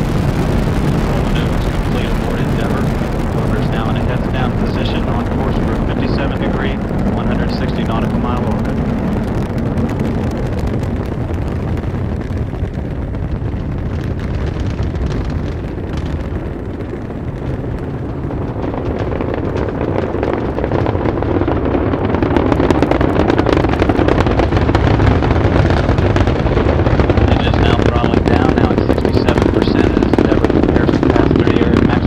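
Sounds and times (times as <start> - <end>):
rocket launch roar: 0.0 - 32.0.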